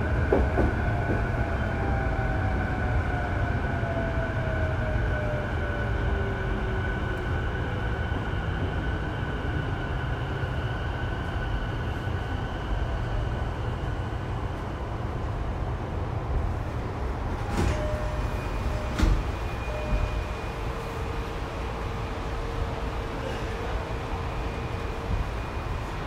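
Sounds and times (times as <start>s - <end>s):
train rumbling over rails: 0.0s - 26.0s.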